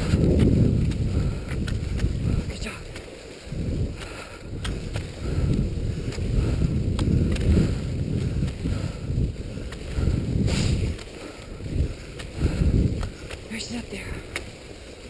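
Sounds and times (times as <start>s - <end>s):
skis gliding on snow: 0.0s - 15.0s
wind buffeting microphone: 0.0s - 15.0s.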